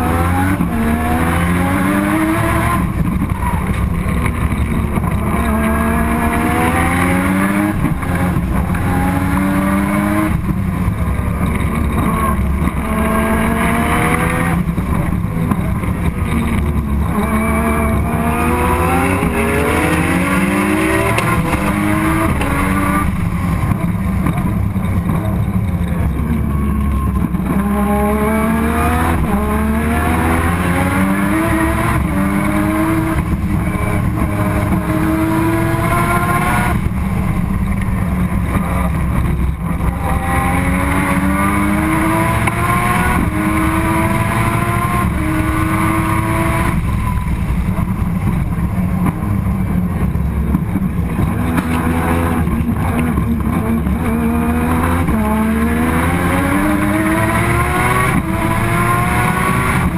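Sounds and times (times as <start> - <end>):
race car rotary engine accelerating: 0.0 - 59.9.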